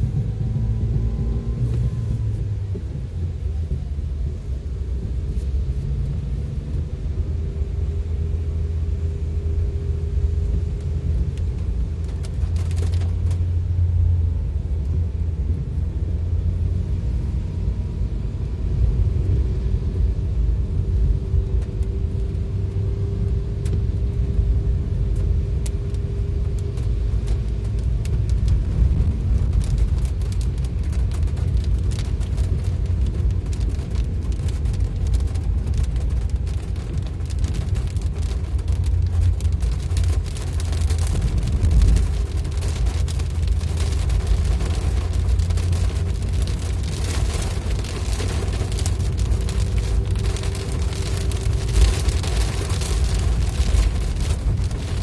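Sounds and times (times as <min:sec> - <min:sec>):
rain noise: 0:00.0 - 0:55.0
road and engine rumble: 0:00.0 - 0:55.0.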